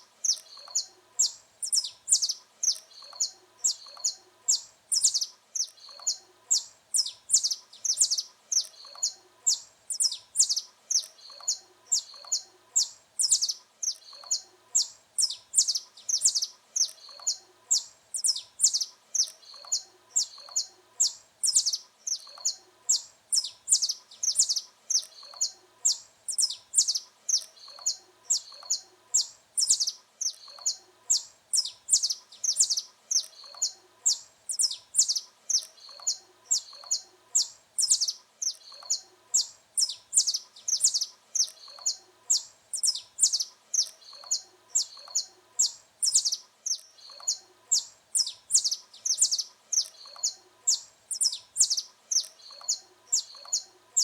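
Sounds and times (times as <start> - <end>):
finch singing high chirps: 0.2 - 54.0.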